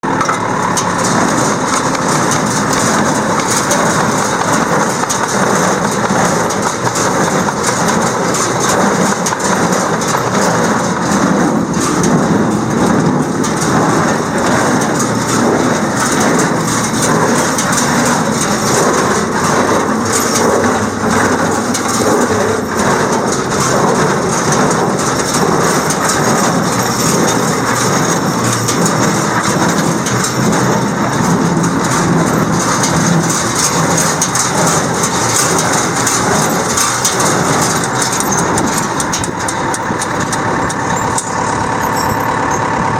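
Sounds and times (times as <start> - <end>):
hay baler clattering: 0.0 - 42.9.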